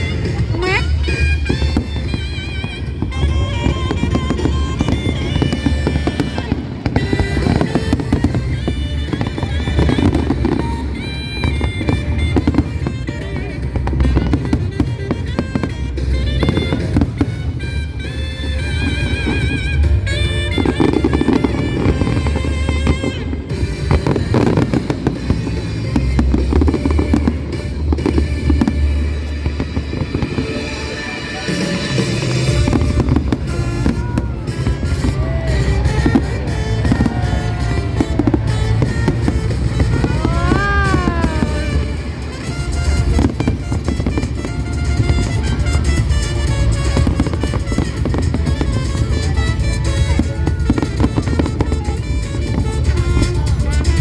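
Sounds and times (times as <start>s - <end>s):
fireworks bangs and crackles: 0.0s - 54.0s
music playing: 0.0s - 54.0s.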